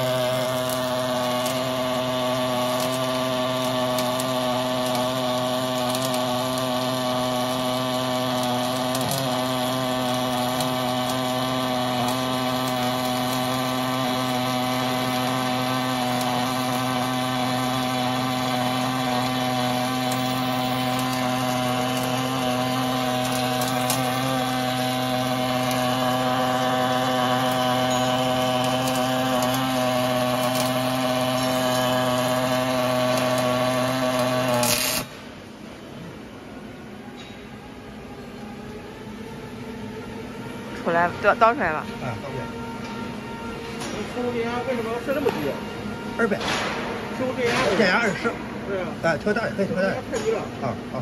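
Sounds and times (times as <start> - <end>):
welding arc buzzing with hiss: 0.0 - 36.4, 37.2 - 51.0.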